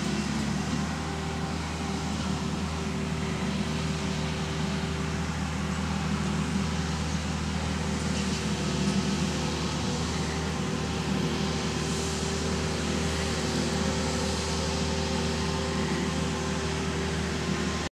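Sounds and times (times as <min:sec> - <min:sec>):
diesel engine running under load: 0:00.0 - 0:17.9.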